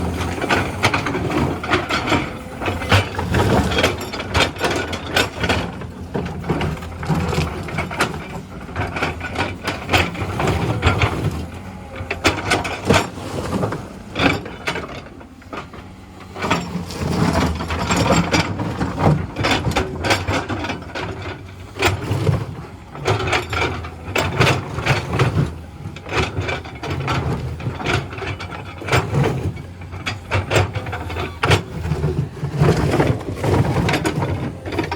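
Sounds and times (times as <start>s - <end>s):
bucket and rock clanking: 0.0s - 34.9s
diesel engine under load: 0.0s - 34.9s.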